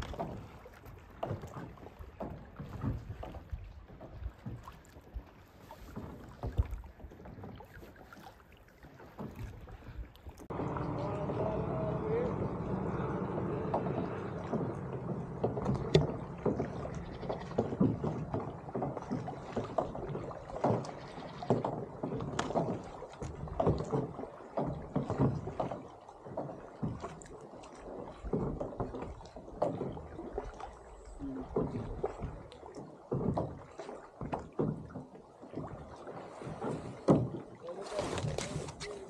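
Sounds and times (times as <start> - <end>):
paddle splashing in water: 0.0 - 39.0.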